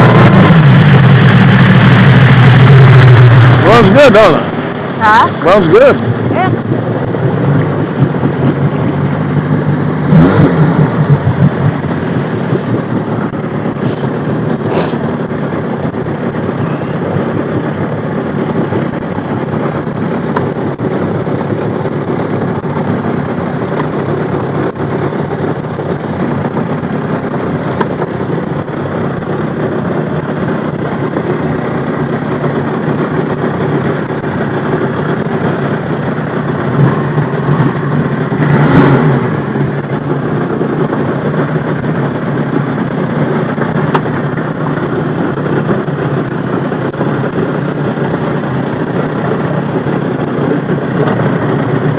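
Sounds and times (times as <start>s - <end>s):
jet ski engine running: 0.0s - 51.9s.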